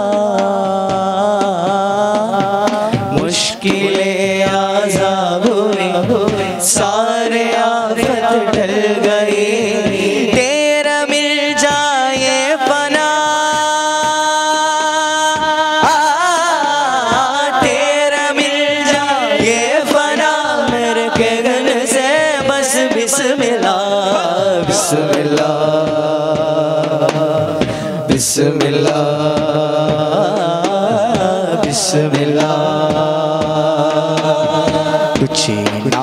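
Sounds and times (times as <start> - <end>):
men singing devotional song: 0.0 - 36.0.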